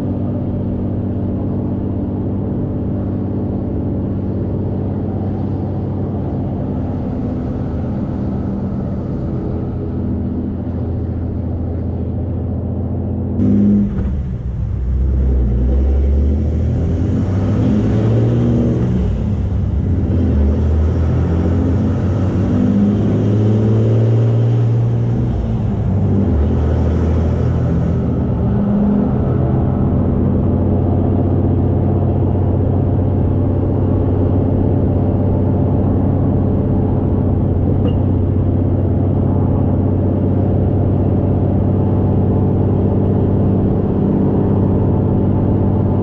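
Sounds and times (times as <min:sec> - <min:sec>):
diesel pickup engine droning: 0:00.0 - 0:46.0.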